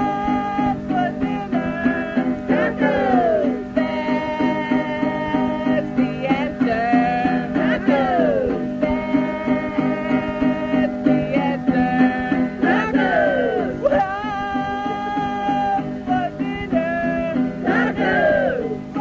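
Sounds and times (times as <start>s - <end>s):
acoustic folk music: 0.0s - 19.0s.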